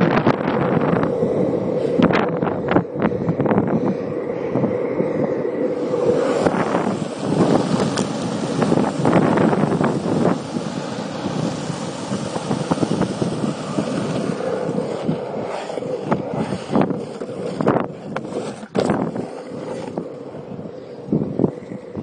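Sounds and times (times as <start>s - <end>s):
longboard wheels rolling on asphalt: 0.0s - 22.0s
wind buffeting microphone: 0.0s - 22.0s.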